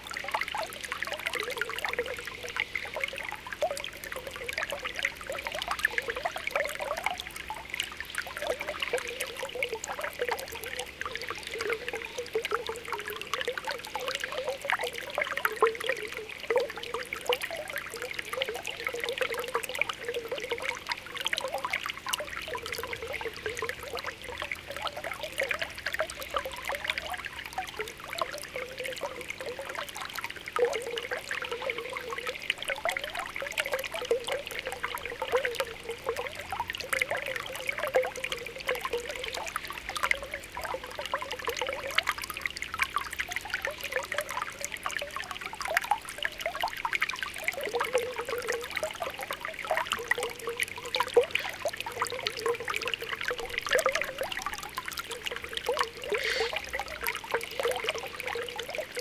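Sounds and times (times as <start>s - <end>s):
spring water trickling and bubbling: 0.0s - 59.0s.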